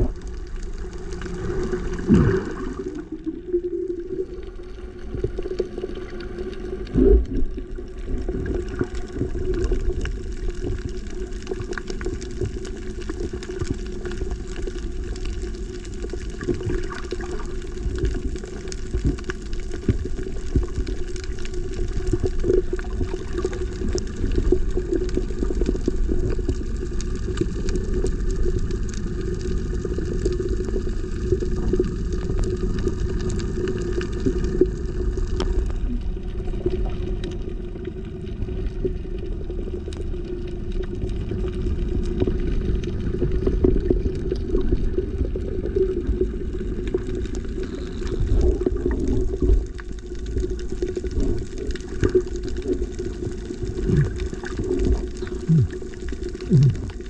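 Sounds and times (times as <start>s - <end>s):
faint underwater clicks: 0.0s - 57.0s
underwater rumble of moving water: 0.0s - 57.0s.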